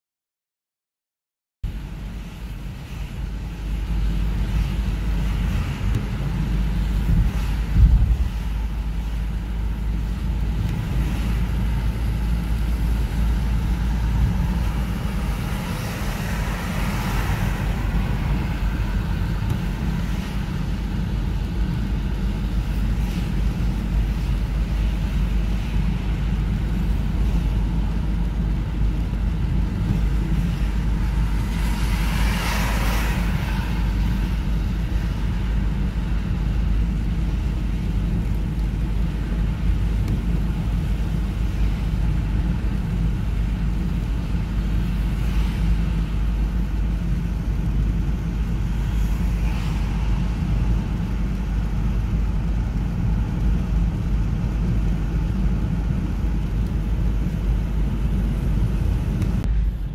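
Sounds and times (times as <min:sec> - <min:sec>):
engine and tyre rumble: 0:01.6 - 0:59.9
road and rain noise: 0:01.6 - 0:59.9.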